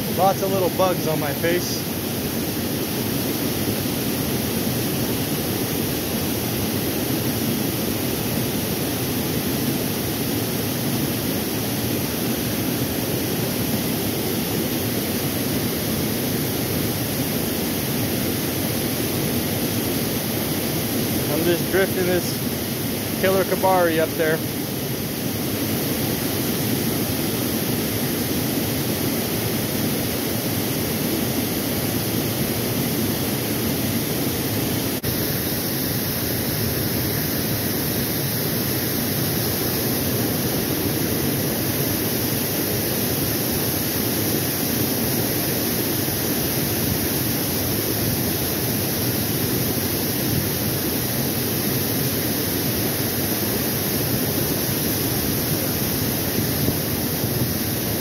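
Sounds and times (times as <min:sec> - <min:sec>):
water pouring over dam spillway: 0:00.0 - 0:58.0.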